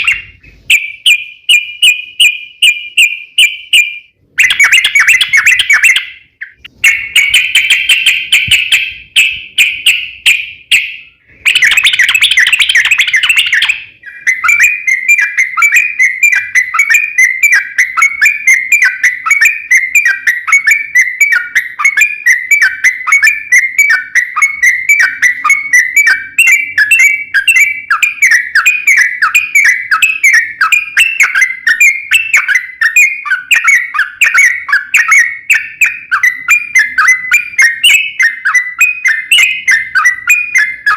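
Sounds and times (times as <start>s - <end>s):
bird singing loudly: 0.0s - 40.9s.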